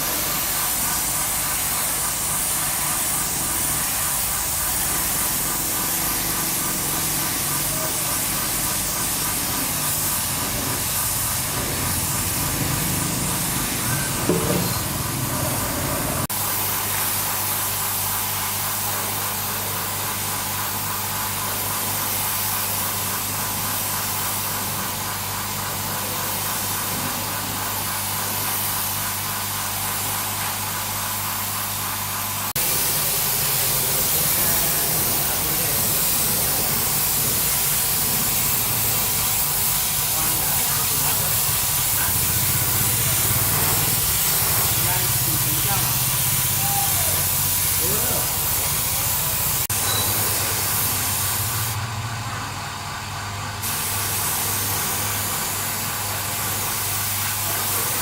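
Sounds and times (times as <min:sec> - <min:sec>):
hissing spray: 0:00.0 - 0:51.8, 0:53.6 - 0:58.0.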